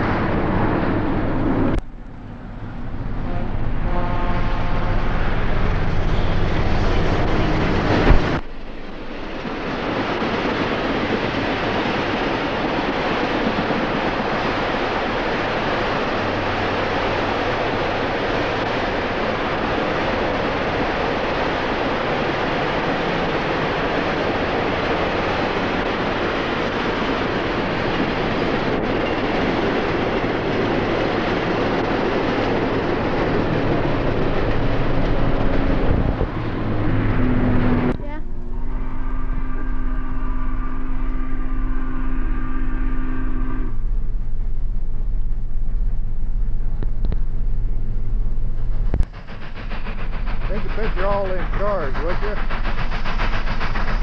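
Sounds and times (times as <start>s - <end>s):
train wheels rushing on rail: 0.0s - 54.0s.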